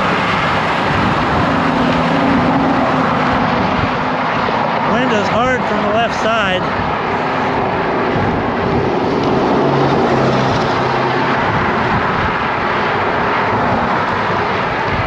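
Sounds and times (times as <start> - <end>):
low engine hum: 0.0 - 15.0
road traffic: 0.0 - 15.0
wind rushing over microphone: 0.0 - 15.0.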